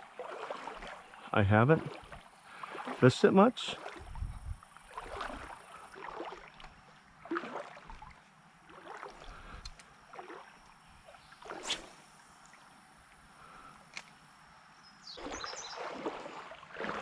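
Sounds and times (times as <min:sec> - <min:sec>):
creek water sloshing and splashing: 0:00.0 - 0:12.7, 0:15.0 - 0:17.0.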